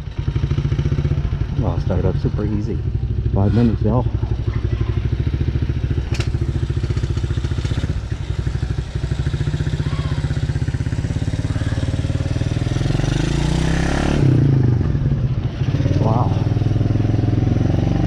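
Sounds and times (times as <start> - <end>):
dirt bike engine idling: 0.0 - 17.8.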